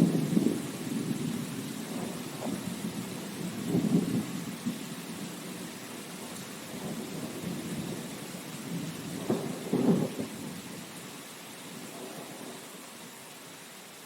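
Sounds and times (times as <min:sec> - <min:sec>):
low rolling thunder: 0:00.0 - 0:10.8, 0:11.8 - 0:12.7
steady rain: 0:00.0 - 0:14.0.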